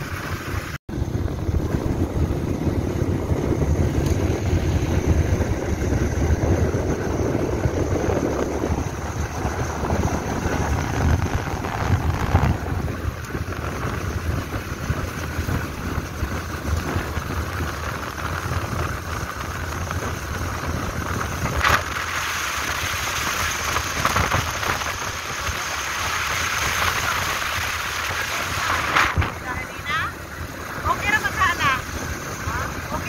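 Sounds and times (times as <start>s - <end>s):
motorcycle engine rumble: 0.0s - 33.0s
wind rushing over microphone: 0.0s - 33.0s.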